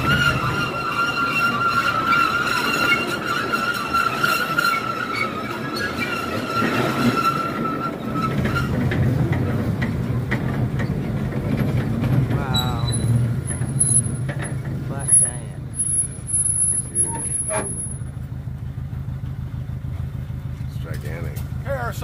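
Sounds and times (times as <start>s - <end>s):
train rumbling on track: 0.0s - 22.0s
wheels squealing: 0.0s - 22.0s.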